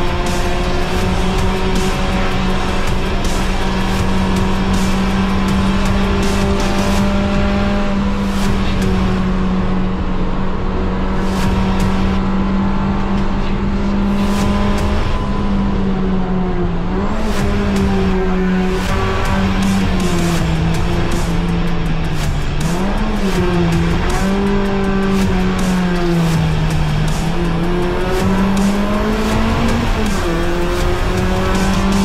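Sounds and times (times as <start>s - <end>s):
race car engine revving high: 0.0s - 32.0s
tyre and road noise: 0.0s - 32.0s.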